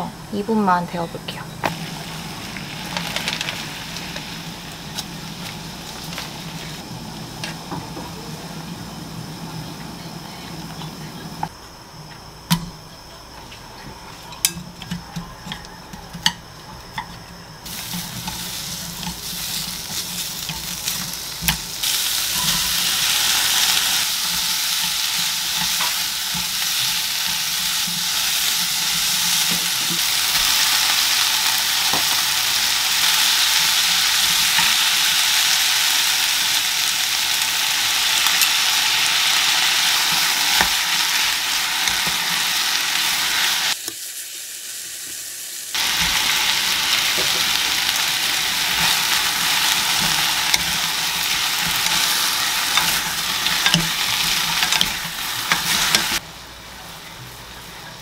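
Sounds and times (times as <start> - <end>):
food sizzling in a frying pan: 0.0 - 11.5, 13.9 - 58.0.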